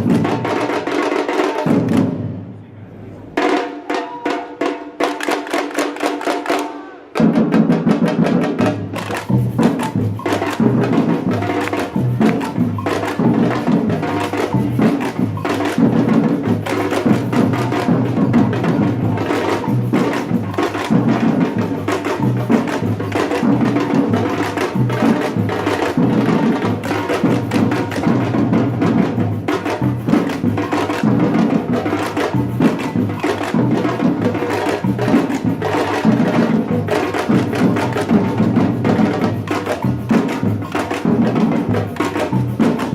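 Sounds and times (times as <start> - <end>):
samba percussion group drumming: 0.0 - 2.6, 3.2 - 42.9.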